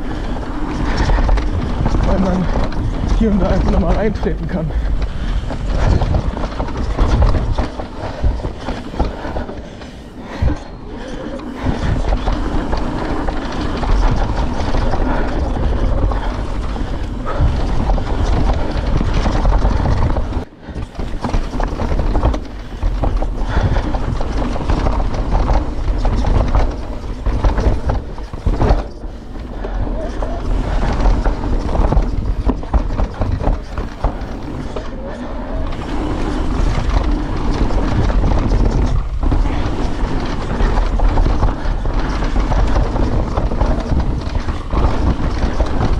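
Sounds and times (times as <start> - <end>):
bike knocking and rattling: 0.0 - 45.9
tyres rolling on dirt trail: 0.0 - 45.9.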